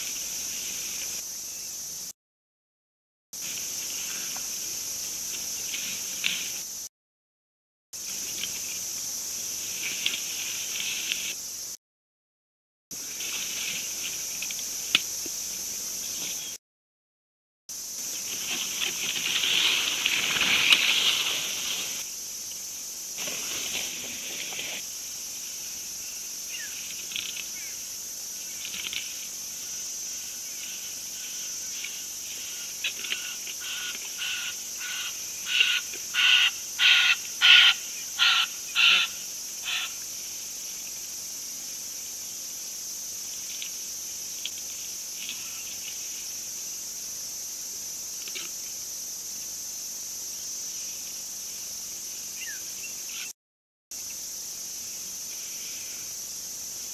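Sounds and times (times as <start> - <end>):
crickets and insects chirring: 0.0 - 2.2, 3.4 - 6.9, 8.0 - 11.8, 12.9 - 16.6, 17.7 - 56.9.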